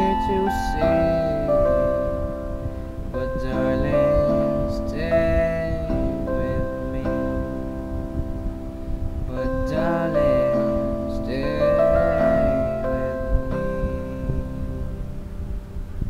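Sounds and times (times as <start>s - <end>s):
person singing: 0.0s - 15.5s
electronic keyboard ballad: 0.0s - 16.0s.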